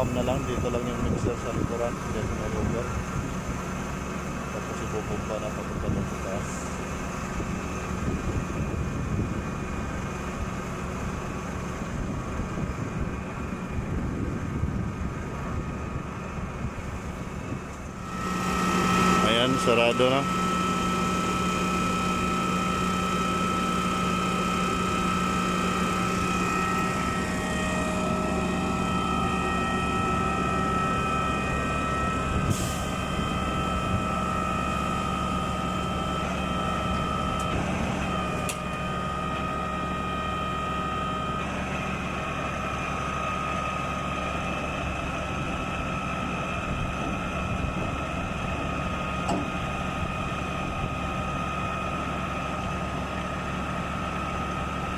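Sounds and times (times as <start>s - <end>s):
concrete pump engine drone: 0.0s - 54.9s
steady high whine: 0.0s - 54.9s.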